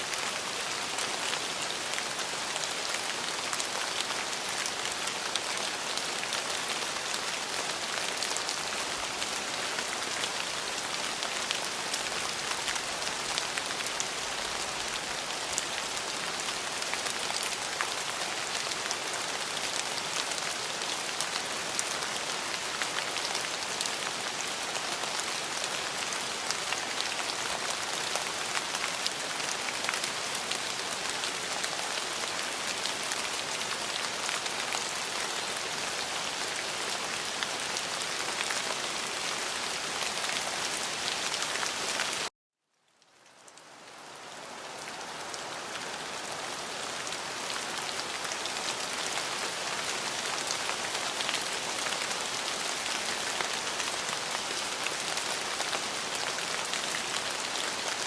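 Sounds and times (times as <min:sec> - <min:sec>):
steady rain falling: 0:00.0 - 0:42.3, 0:42.9 - 0:58.0.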